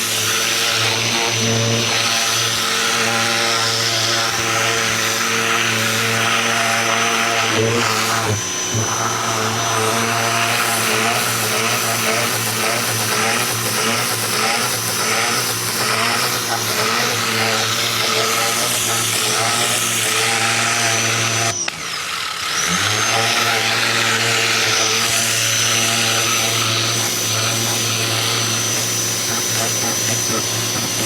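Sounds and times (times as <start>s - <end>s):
pressure washer motor humming: 0.0s - 31.0s.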